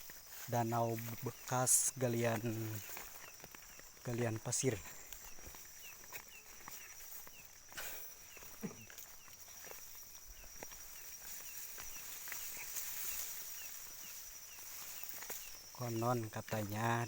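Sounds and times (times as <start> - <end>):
footsteps: 0.0 - 17.0
insects buzzing and chirping: 0.0 - 17.0
rustling: 2.1 - 15.9.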